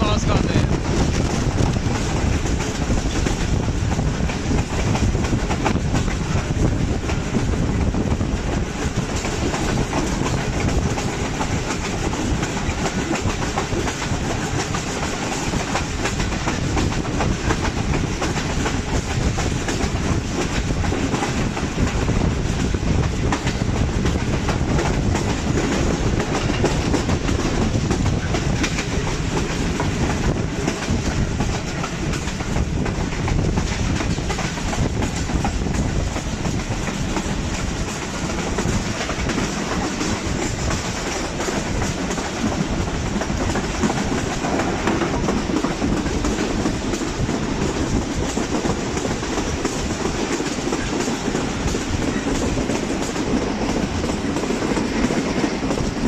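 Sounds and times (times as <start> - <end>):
clickety-clack over rail joints: 0.0 - 56.0
train wheels rumbling on track: 0.0 - 56.0.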